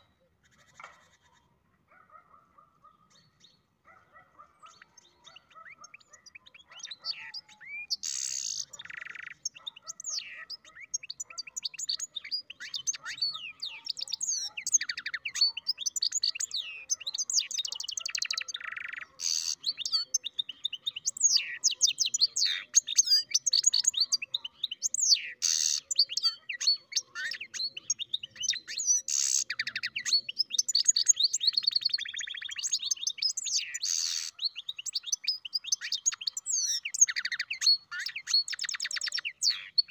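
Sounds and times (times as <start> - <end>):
finch singing twittering trills: 3.0 - 39.9.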